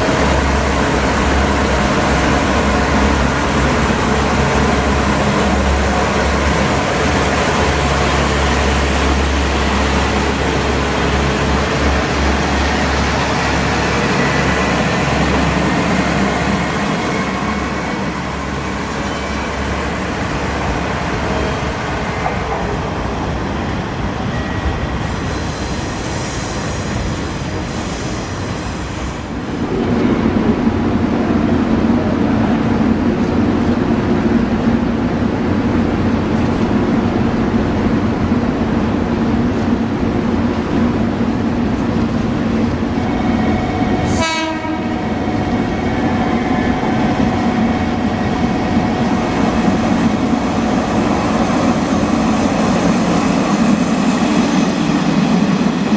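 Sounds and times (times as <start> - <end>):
diesel railcar engine running: 0.0 - 55.9.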